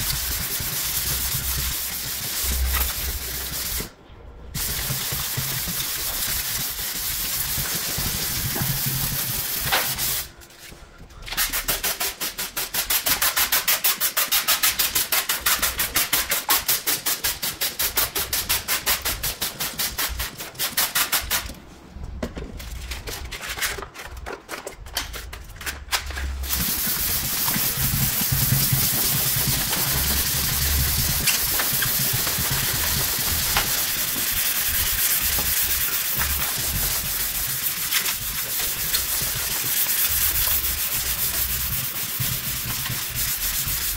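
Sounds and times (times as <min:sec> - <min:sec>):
sandpaper rasping on car paint: 0:00.0 - 0:03.9, 0:04.6 - 0:10.3, 0:11.4 - 0:21.5, 0:26.4 - 0:43.9.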